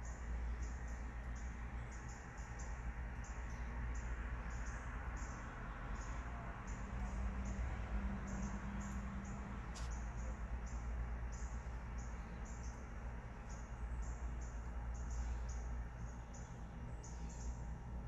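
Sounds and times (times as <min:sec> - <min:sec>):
low continuous rumble: 0:00.0 - 0:18.0.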